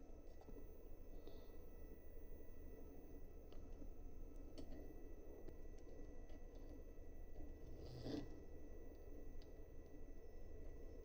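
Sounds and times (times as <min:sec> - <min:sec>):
faint high whine: 0:00.0 - 0:11.0
steady low hum: 0:00.0 - 0:11.0.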